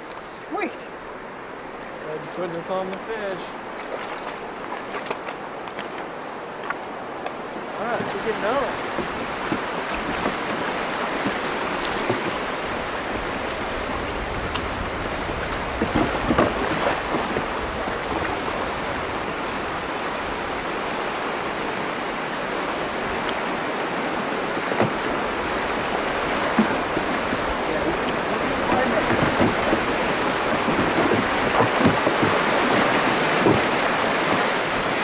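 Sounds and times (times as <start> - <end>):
river water rushing over rocks: 0.0 - 35.0
water splashing: 0.0 - 35.0.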